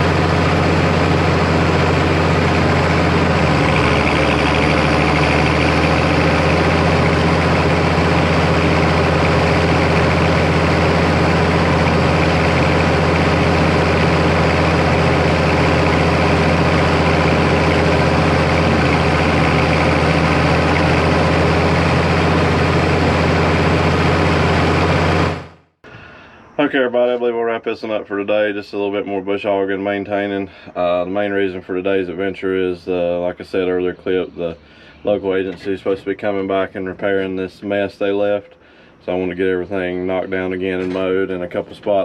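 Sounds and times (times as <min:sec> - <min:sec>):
tractor diesel engine running: 0:00.0 - 0:25.7, 0:29.9 - 0:42.0.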